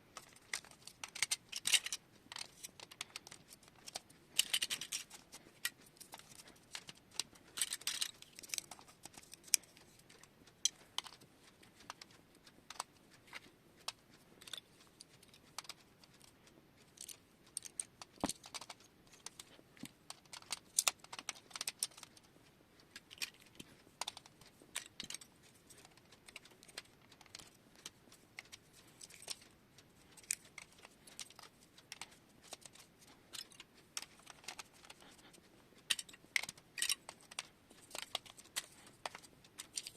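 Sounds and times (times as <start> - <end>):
marble run toy clicking and clattering: 0.2 - 11.2, 11.8 - 16.3, 16.9 - 22.3, 23.0 - 29.5, 30.1 - 39.9.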